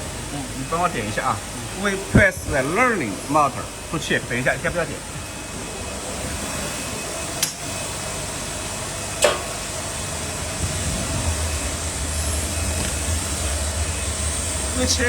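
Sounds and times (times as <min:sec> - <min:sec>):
deeper low hum: 0:00.0 - 0:15.0
machinery hum: 0:00.0 - 0:15.0.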